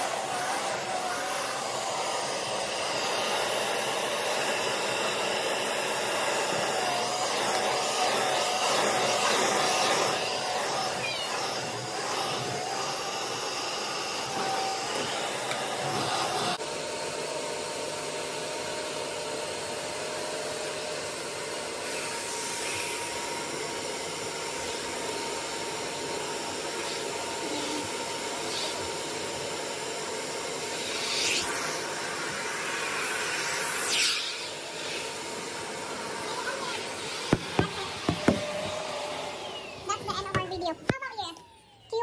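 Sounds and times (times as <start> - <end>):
vacuum cleaner running on carpet: 0.0 - 42.0.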